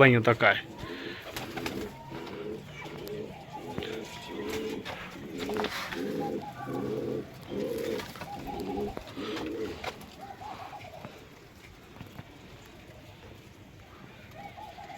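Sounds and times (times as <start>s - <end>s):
pigeons cooing: 0.4s - 14.9s.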